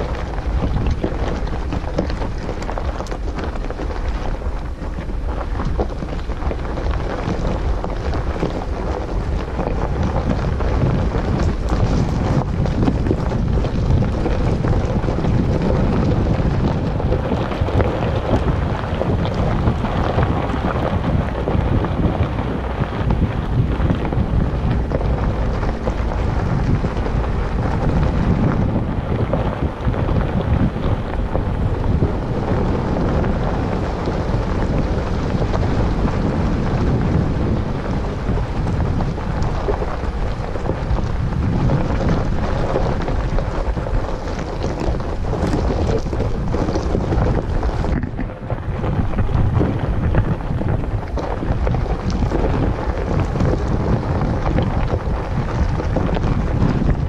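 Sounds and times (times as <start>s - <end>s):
vehicle rumbling on gravel road: 0.0s - 57.0s
wind buffeting the microphone: 0.0s - 57.0s.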